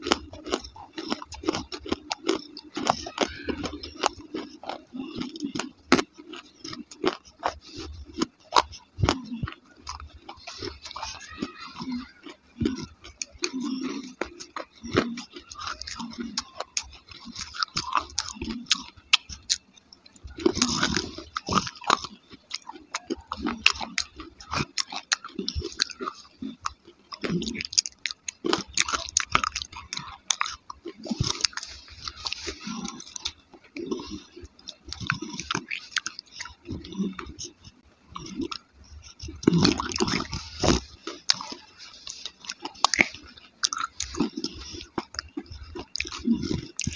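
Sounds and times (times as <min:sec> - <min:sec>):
wet chewing with mouth clicks: 0:00.0 - 0:46.9.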